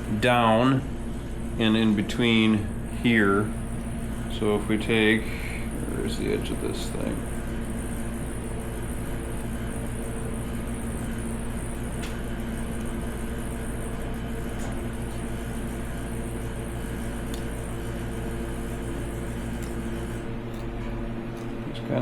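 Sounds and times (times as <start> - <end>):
machine hum with pitched tones: 0.0 - 22.0.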